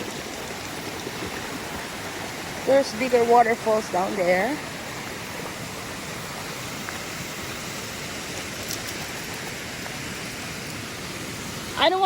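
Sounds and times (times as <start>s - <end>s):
stream rushing over waterfalls: 0.0s - 12.0s.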